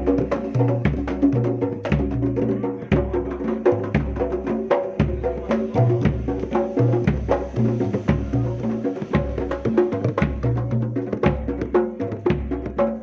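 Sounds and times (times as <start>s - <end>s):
deep low drum strokes: 0.0s - 12.8s
sharp hand drum strokes: 0.0s - 13.0s.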